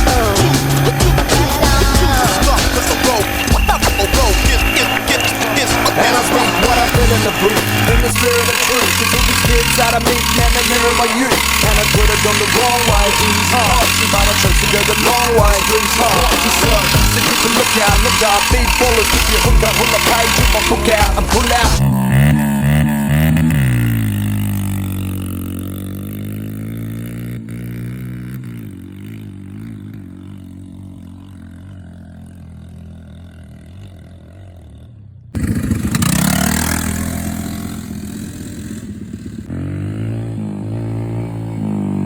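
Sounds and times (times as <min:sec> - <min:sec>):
dirt bike engine running: 0:00.0 - 0:42.0
engine revving: 0:00.0 - 0:42.0.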